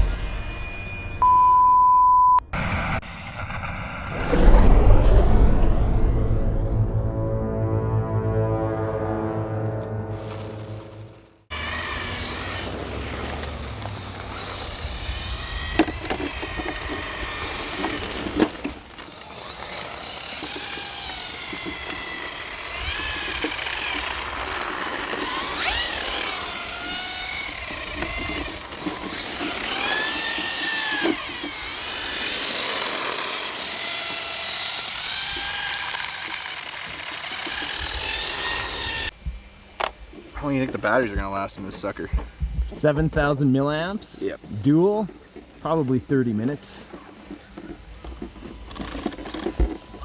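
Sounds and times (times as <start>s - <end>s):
electric motors whining: 9.4s - 50.0s.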